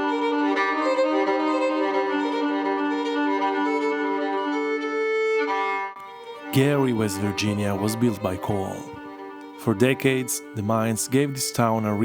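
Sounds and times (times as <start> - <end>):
bowed strings holding long notes: 0.0 - 12.0.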